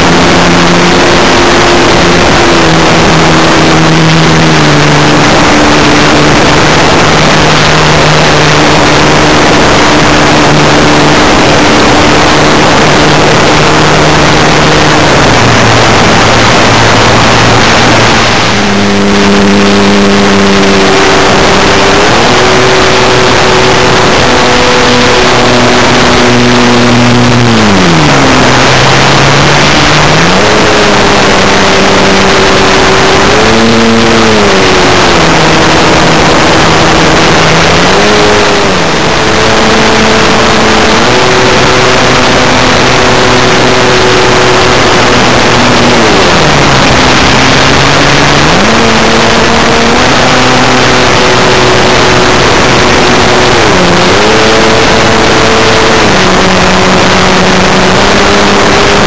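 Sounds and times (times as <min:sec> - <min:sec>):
electric motor and propeller: 0:00.0 - 0:59.0
wind rush on microphone: 0:00.0 - 0:59.0.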